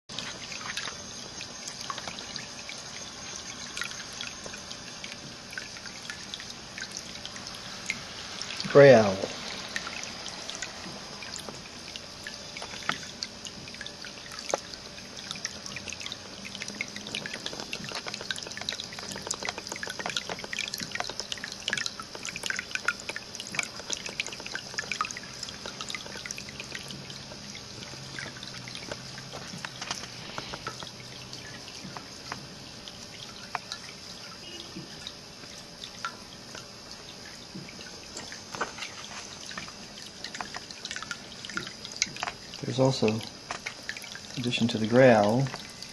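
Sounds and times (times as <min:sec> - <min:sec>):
fountain water trickling and dripping: 0:00.1 - 0:45.9.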